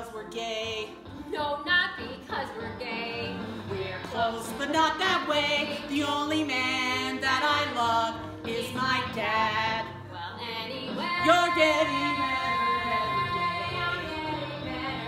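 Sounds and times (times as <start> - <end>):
voices singing on stage: 0.0 - 15.0.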